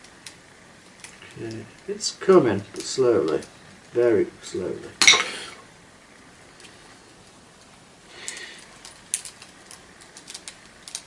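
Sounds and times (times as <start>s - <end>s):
wire rustling: 0.0s - 11.0s.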